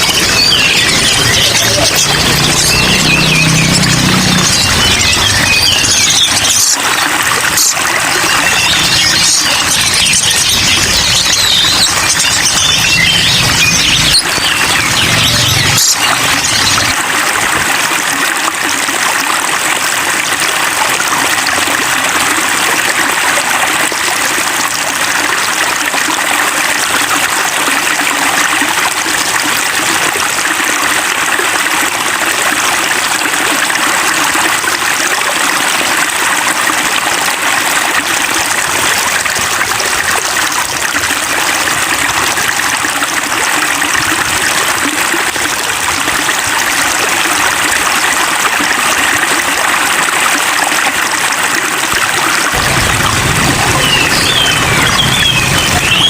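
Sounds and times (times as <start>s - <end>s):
rain water pouring: 0.0s - 56.0s.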